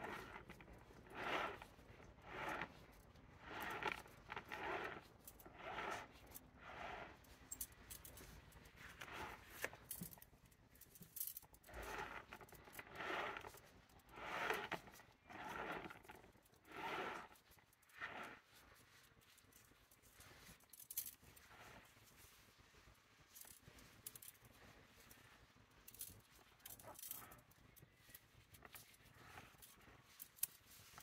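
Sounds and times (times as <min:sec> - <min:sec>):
wire scraping rustles: 0:00.0 - 0:31.0.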